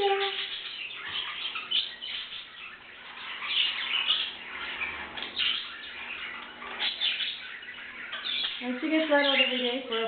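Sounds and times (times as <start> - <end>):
canaries chirping: 0.0 - 10.0.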